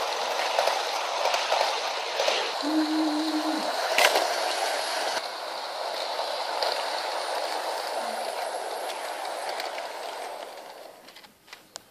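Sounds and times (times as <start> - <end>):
model train wheels rolling on rails: 0.0 - 11.9.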